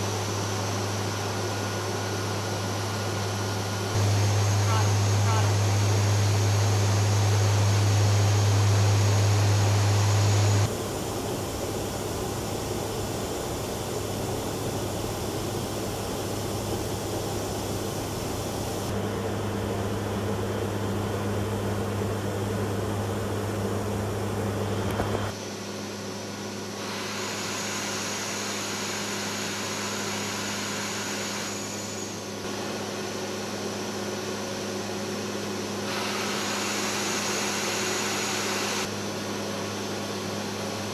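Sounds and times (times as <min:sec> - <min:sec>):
turboprop engines droning in flight: 0:00.0 - 0:40.9.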